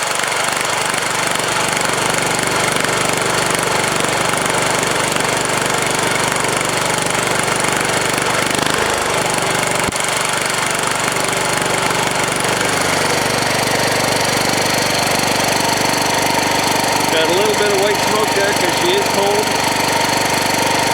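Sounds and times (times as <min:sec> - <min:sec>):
diesel engine clattering: 0:00.0 - 0:20.9.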